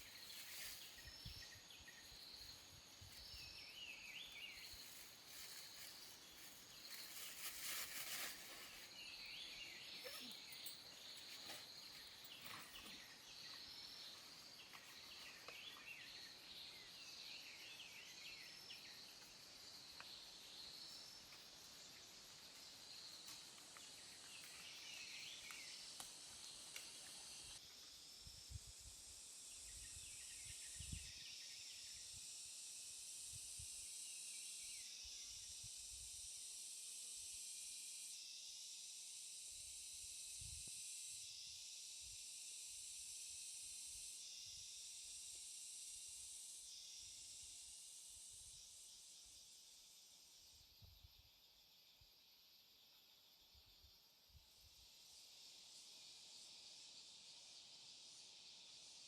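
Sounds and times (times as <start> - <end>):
high-pitched insect hum: 0.0 - 59.0
rustle: 0.0 - 59.0
short insect chirps: 0.0 - 59.0.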